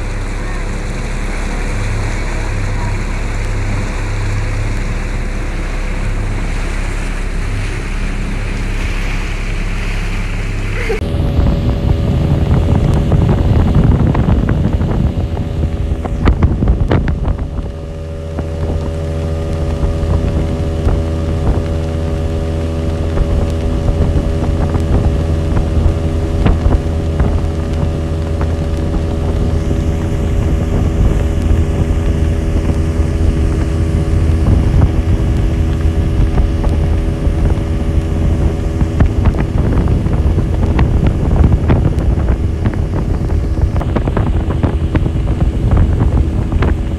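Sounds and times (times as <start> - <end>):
outboard motor running: 0.0 - 46.9
wind buffeting microphone: 0.0 - 46.9.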